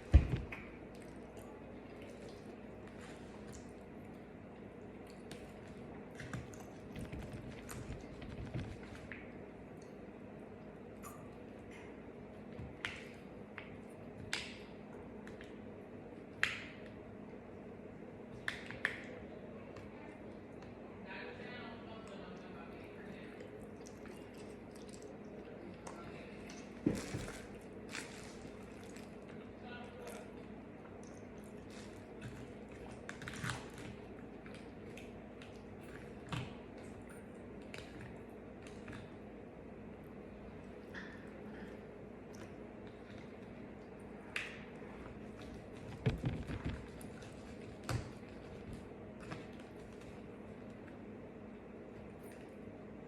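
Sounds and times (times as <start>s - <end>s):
steady low hum: 0.0s - 53.0s
close chewing and wet mouth sounds: 0.5s - 17.6s, 23.0s - 53.0s.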